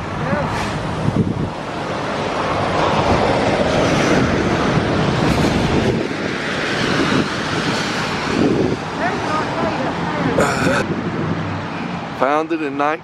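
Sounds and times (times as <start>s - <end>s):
vehicle passing: 0.0s - 12.8s.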